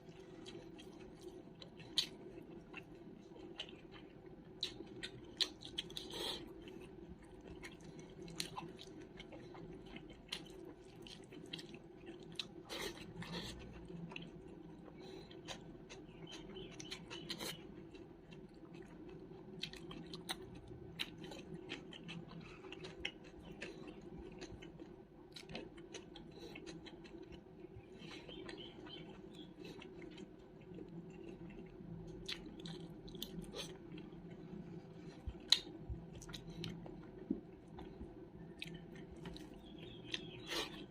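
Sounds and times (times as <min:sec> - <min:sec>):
chewing food: 0:00.0 - 0:40.9
food crunching: 0:00.0 - 0:40.9.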